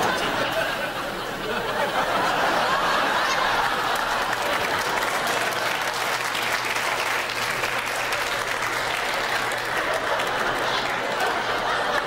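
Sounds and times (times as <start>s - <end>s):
audience applauding: 0.0s - 12.0s
audience laughing: 0.0s - 12.0s.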